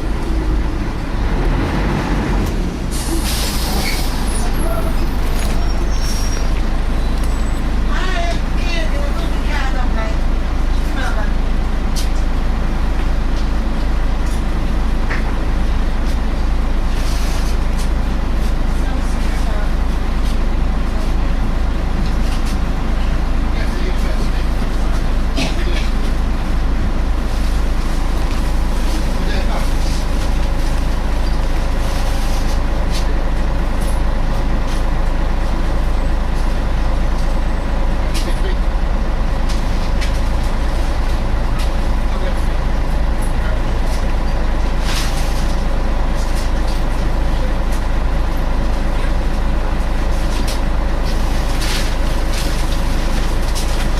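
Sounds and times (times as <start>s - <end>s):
bus diesel engine drone: 0.0s - 53.9s
low road rumble: 0.0s - 53.9s.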